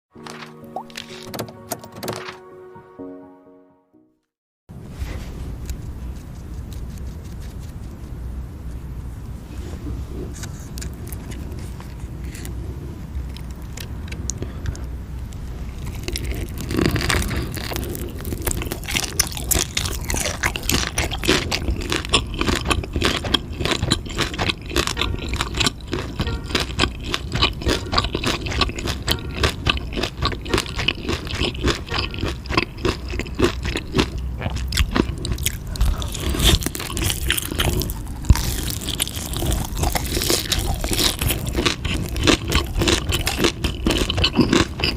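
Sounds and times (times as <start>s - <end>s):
low steady hum: 4.7s - 44.9s
chewing and crunching food: 5.6s - 8.2s, 10.1s - 44.9s.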